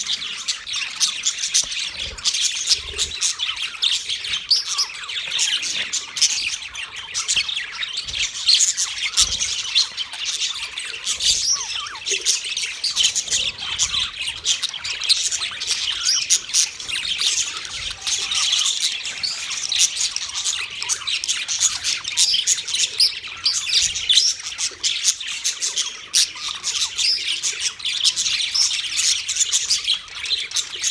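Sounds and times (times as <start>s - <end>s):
budgerigars chirping and squawking: 0.0s - 30.9s.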